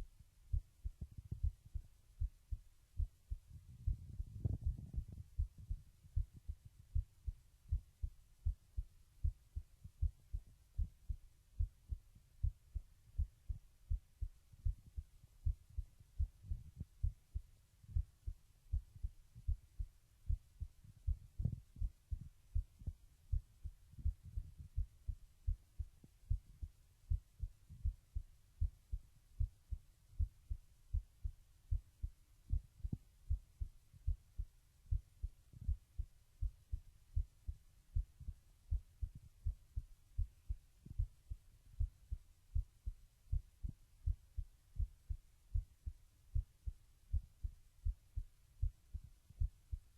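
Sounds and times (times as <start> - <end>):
heart beating: 0.0 - 49.9.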